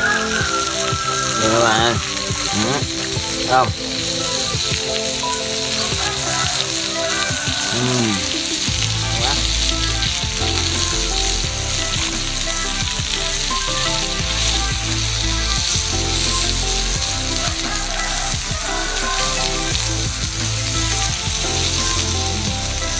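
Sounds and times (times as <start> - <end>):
meat sizzling in hot fat: 0.0 - 22.9.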